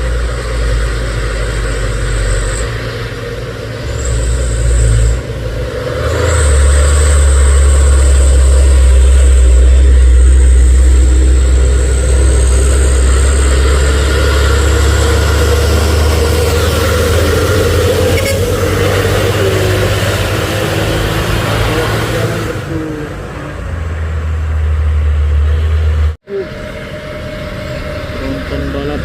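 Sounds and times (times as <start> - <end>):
high steady whine: 0.0 - 23.7, 24.7 - 29.0
truck diesel engine labouring: 0.0 - 29.0.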